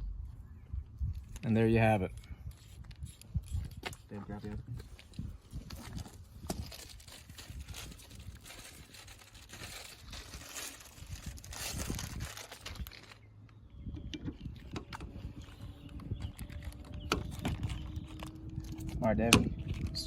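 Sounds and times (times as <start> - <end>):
crinkling and rustling: 2.6 - 13.6, 14.3 - 20.0.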